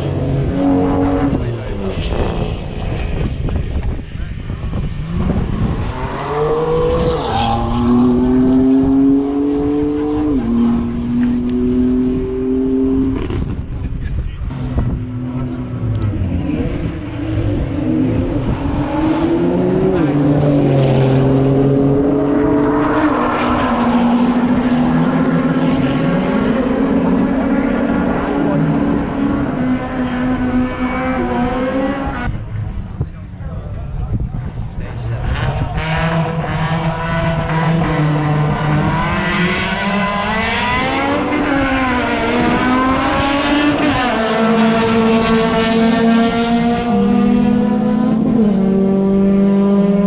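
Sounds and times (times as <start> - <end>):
racing car engines revving high: 0.0 - 50.0.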